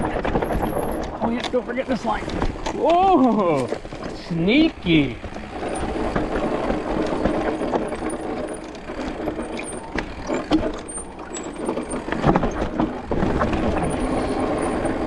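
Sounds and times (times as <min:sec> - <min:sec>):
bike rattling: 0:00.0 - 0:15.0
bike tyre noise on dirt trail: 0:00.0 - 0:15.0.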